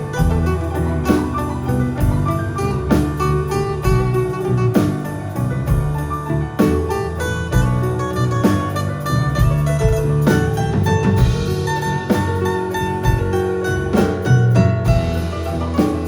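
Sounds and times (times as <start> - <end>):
drum kit beat: 0.0 - 16.0
held bass notes: 0.0 - 16.0.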